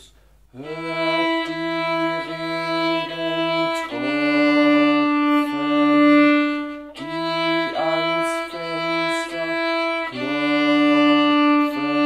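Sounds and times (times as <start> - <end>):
man singing: 0.5 - 12.0
violin bowed exercise: 0.6 - 12.0.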